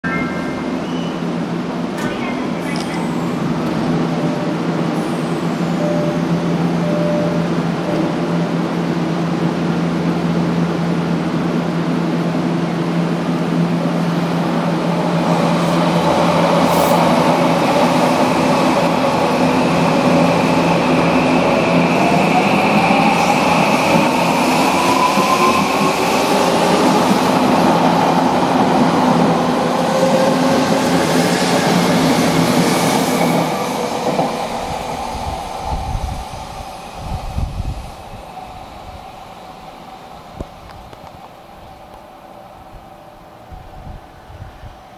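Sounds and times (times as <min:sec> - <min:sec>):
electrical hum of train: 0:00.0 - 0:44.9.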